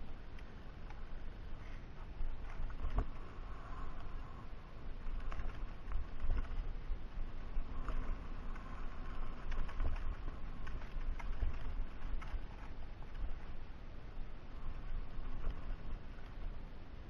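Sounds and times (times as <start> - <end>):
wind and tyres rumbling on dirt: 0.0 - 17.0.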